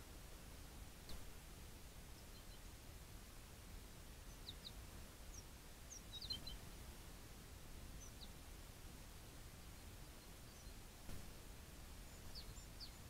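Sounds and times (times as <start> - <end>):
songbird chirping: 1.1 - 13.0.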